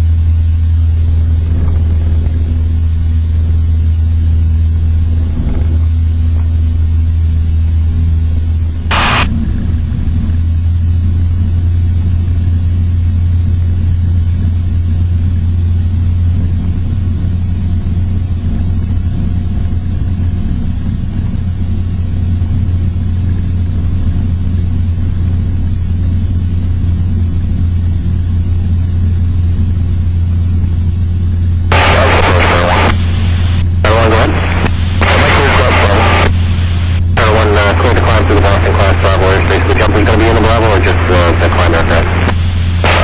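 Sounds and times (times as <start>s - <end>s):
propeller plane engine drone: 0.0s - 43.0s.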